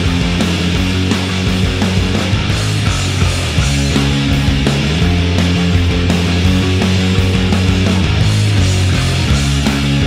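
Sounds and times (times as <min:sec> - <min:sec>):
loud rock music: 0:00.0 - 0:10.0.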